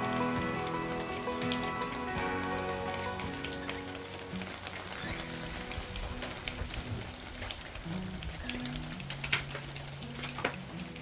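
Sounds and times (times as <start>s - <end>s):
music of sustained notes: 0.0s - 11.0s
rain pattering: 0.0s - 11.0s.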